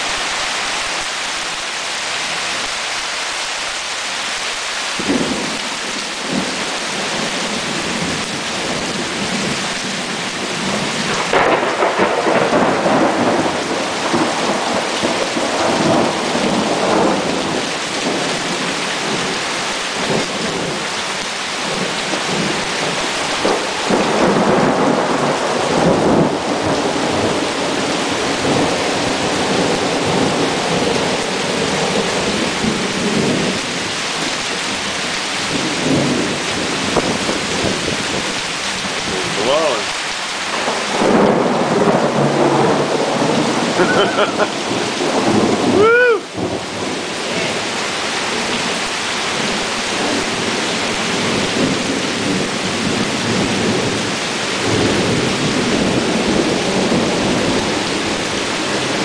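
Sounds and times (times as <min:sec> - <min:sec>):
heavy rain falling: 0:00.0 - 0:59.0
thunder rumbling: 0:05.0 - 0:20.9, 0:21.6 - 0:59.0.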